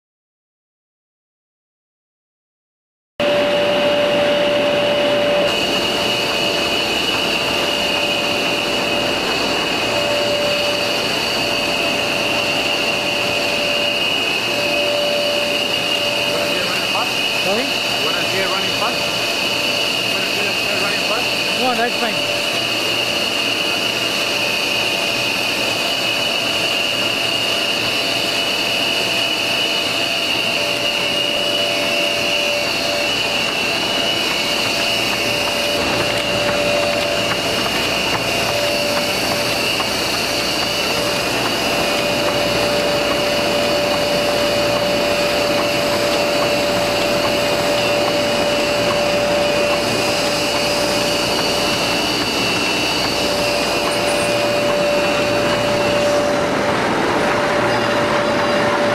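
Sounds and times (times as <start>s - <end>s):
coating machine whirring and hissing: 3.2s - 58.9s
high-pitched machine whines: 3.2s - 58.9s.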